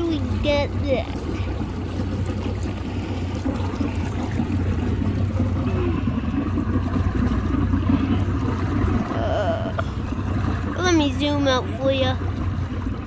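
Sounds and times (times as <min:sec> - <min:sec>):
boat motor humming: 0:00.0 - 0:13.0
water washing: 0:00.0 - 0:13.0.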